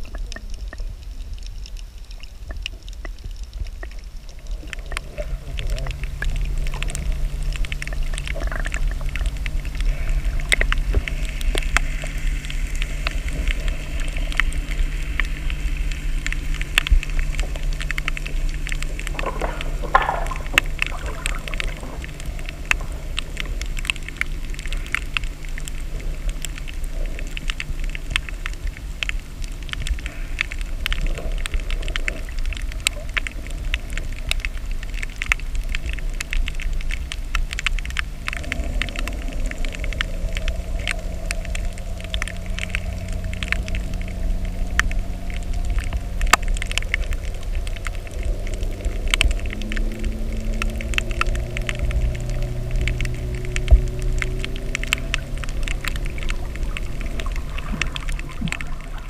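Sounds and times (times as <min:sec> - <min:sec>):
dense crackle of sharp clicks: 0:00.0 - 0:59.0
low underwater rumble and hum: 0:00.0 - 0:59.0.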